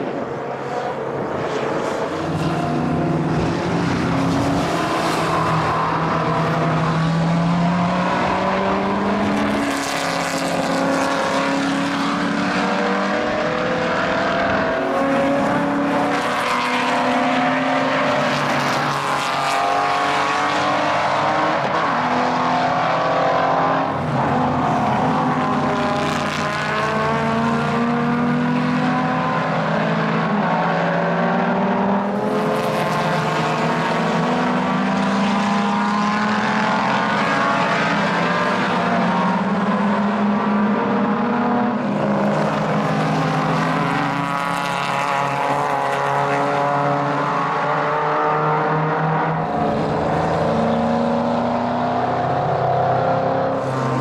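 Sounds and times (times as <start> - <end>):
racing car engines accelerating: 0.0 - 54.0.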